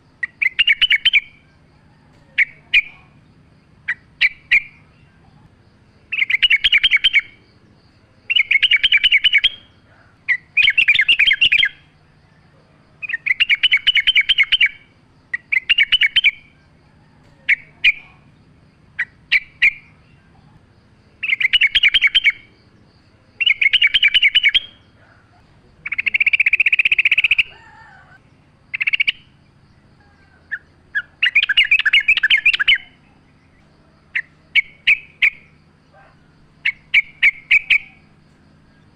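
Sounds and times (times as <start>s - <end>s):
bulbul singing chattering phrases: 0.0s - 38.9s
short bird calls: 0.0s - 38.9s.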